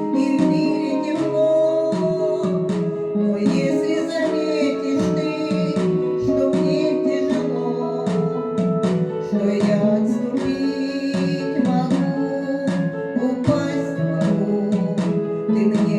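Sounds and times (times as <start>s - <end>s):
held melody notes: 0.0s - 15.9s.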